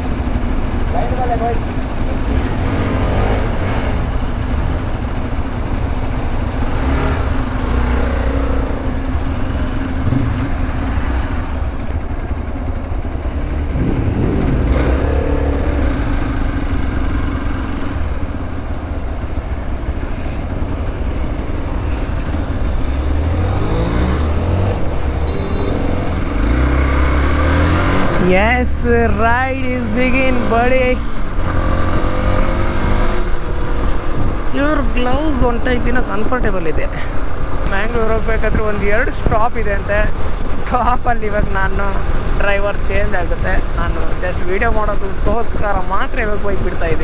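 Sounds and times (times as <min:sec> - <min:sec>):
motorcycle engine revving: 0:00.0 - 0:47.0
motorcycle engines running: 0:00.0 - 0:47.0.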